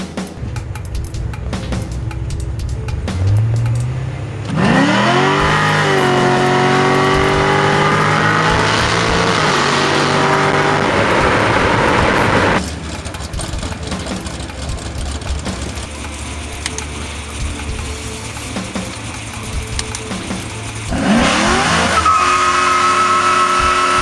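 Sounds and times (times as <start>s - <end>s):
car engine revving: 0.4s - 24.0s.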